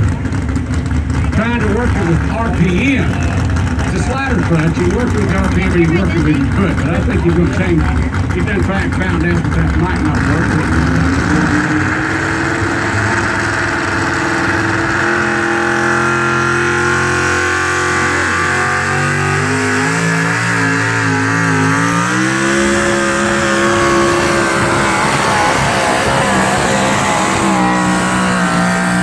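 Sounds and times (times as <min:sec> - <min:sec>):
truck engine revving under load: 0:00.0 - 0:29.0.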